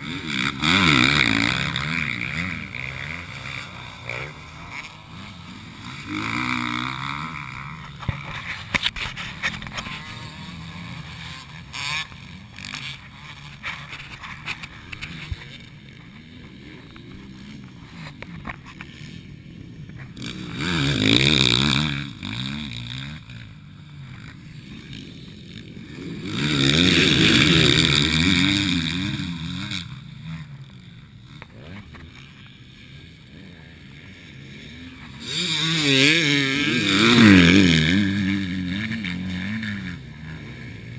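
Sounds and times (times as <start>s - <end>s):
distant engines: 0.0s - 40.9s
motocross bikes racing past: 0.0s - 40.9s.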